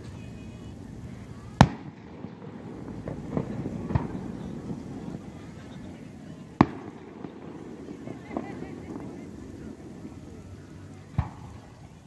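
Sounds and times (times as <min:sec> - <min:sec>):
fireworks bangs: 0:00.0 - 0:12.0
low background rumble: 0:00.0 - 0:12.0
wind noise on microphone: 0:00.0 - 0:12.0.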